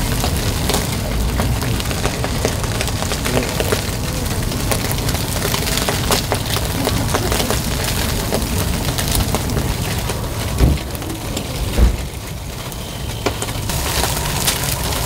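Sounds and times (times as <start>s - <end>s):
eel sizzling on charcoal grill: 0.0s - 15.0s
pops and crackles from coals: 0.0s - 15.0s
steady low rumble: 0.0s - 15.0s.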